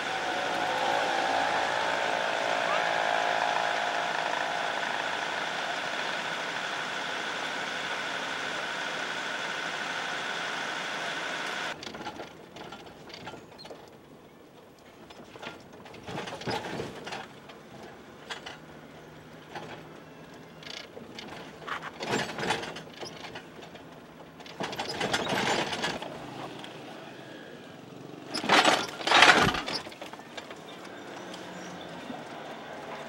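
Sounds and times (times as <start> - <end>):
engine hum: 0.0 - 13.2, 16.9 - 33.0.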